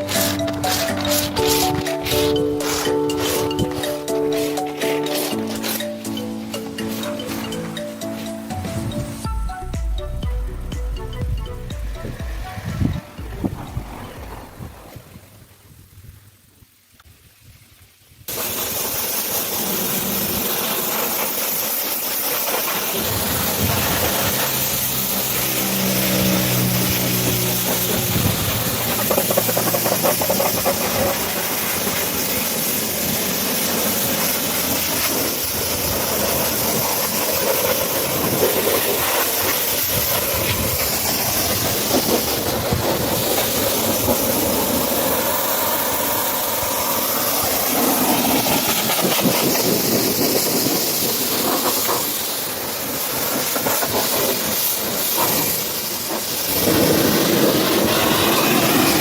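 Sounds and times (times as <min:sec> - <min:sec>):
pressure washer spray hissing: 0:00.0 - 0:08.5, 0:18.3 - 0:59.0.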